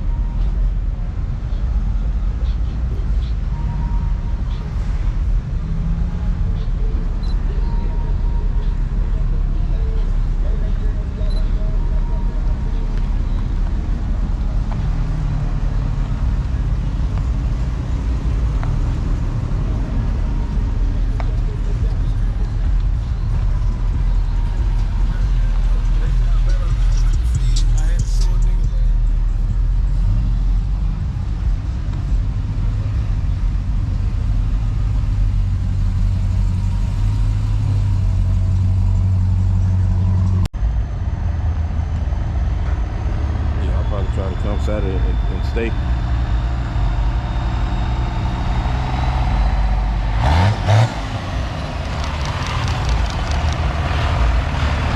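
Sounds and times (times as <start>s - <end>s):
vehicle engine rumble: 0.0s - 54.9s.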